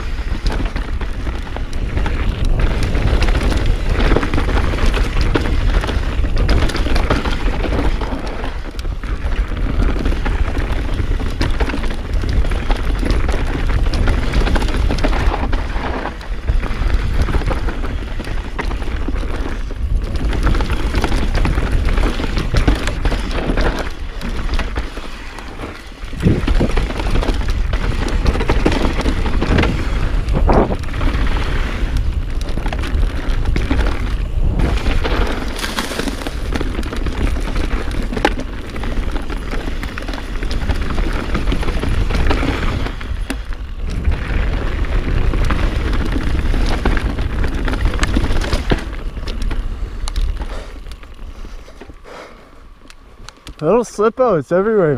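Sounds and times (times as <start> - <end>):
wind rumble on microphone: 0.0 - 52.1
tyres rolling on dirt: 0.0 - 54.9
bike knocking over bumps: 0.1 - 51.8.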